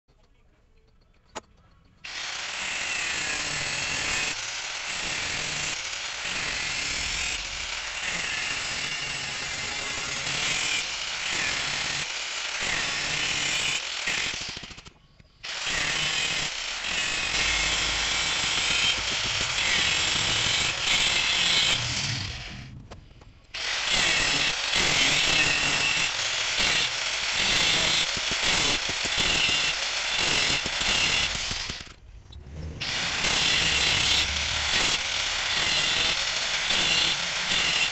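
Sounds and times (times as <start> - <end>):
angle grinder cutting metal: 2.1 - 14.6, 15.5 - 22.8, 23.5 - 37.9.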